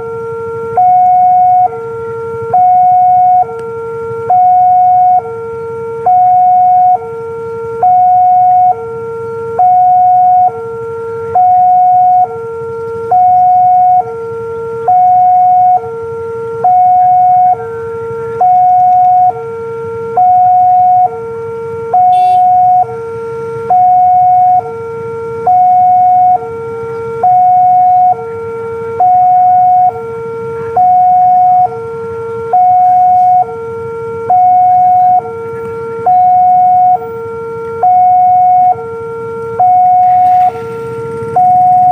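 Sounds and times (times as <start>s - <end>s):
two-tone crossing alarm: 0.0s - 41.9s.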